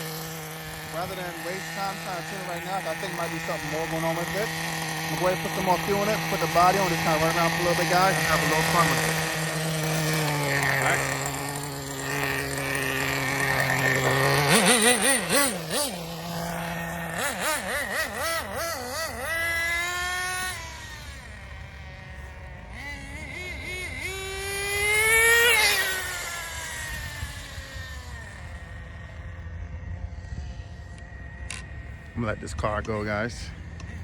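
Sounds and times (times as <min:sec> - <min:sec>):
small nitro engine revving: 0:00.0 - 0:34.0.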